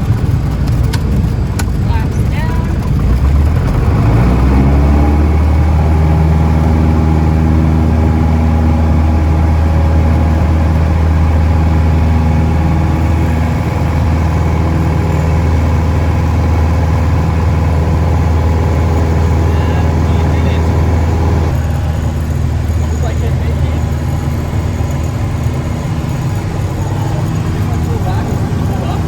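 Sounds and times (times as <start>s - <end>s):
light aircraft engine and propeller: 0.0s - 29.0s.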